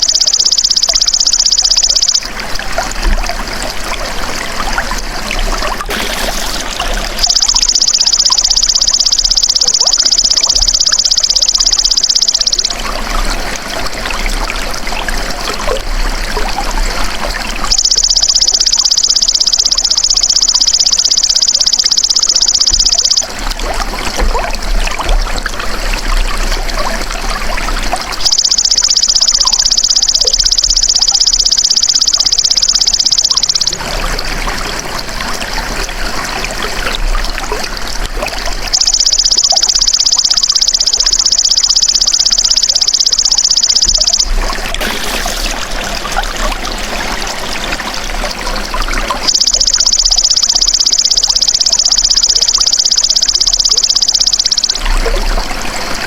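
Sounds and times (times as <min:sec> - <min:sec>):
trickling splashing water: 0:00.0 - 0:56.0.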